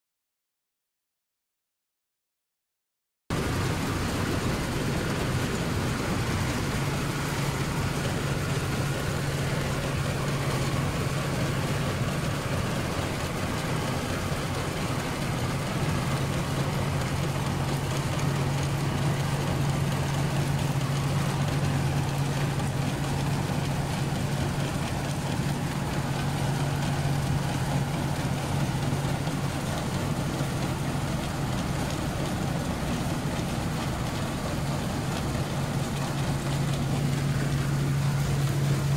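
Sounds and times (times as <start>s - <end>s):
combine harvester engine drone: 3.3s - 38.9s.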